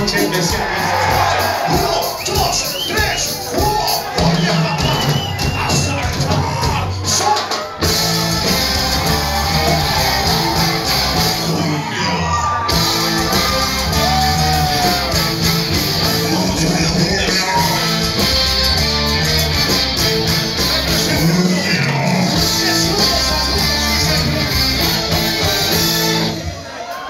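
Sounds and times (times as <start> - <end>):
ska band playing live: 0.0 - 27.0.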